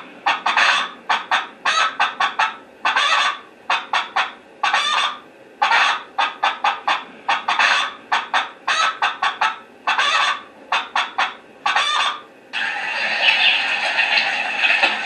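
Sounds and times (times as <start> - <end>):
geese honking through small speaker: 0.3 - 14.8.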